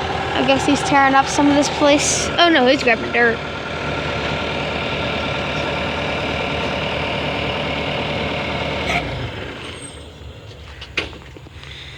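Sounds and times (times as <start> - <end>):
backhoe diesel engine running: 0.0 - 11.9.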